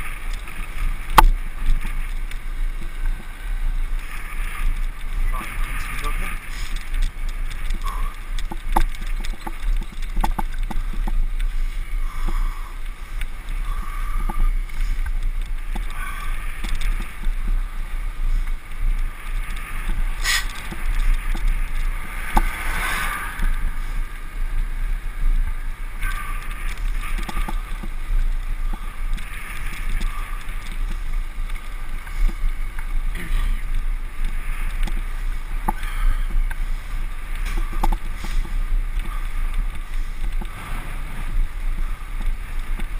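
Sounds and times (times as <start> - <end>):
tyre noise on tarmac: 0.0 - 42.9
wind buffeting microphone: 0.0 - 42.9
small rattles: 0.2 - 42.9.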